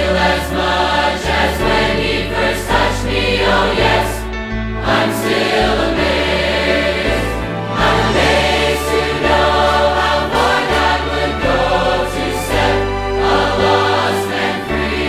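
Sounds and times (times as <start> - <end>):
gospel singing with band: 0.0 - 15.0.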